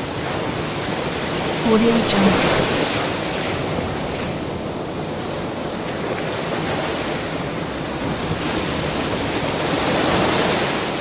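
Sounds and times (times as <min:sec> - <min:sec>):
ocean waves breaking: 0:00.1 - 0:11.0.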